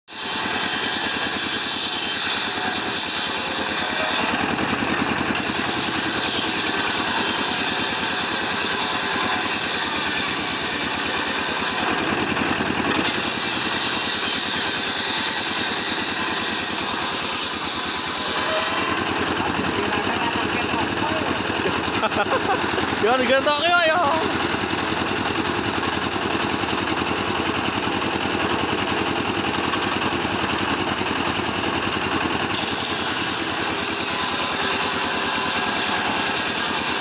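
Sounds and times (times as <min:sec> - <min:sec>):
circular saw cutting wood: 0:00.1 - 0:37.0
diesel engine running: 0:02.8 - 0:14.8, 0:15.8 - 0:35.0.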